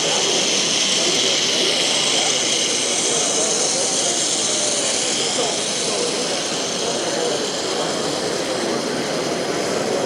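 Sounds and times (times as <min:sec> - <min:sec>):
faint chatter of voices: 0:00.0 - 0:10.0
rushing hall background noise: 0:00.0 - 0:10.0.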